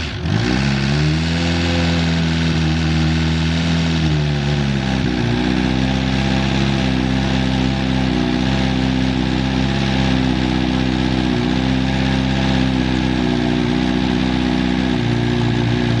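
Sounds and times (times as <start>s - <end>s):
motorcycle engine idling: 2.6s - 16.0s.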